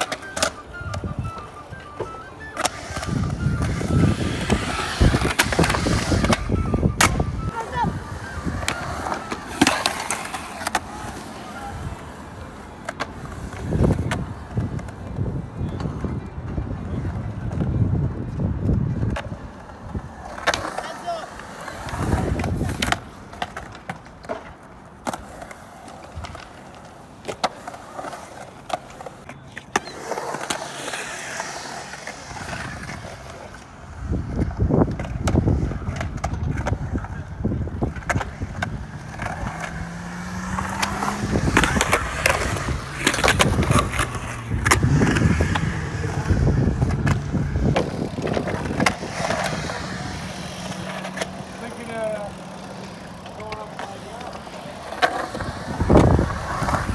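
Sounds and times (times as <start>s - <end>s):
skateboard clacking: 0.0s - 56.9s
skateboard wheels rolling on concrete: 0.0s - 56.9s.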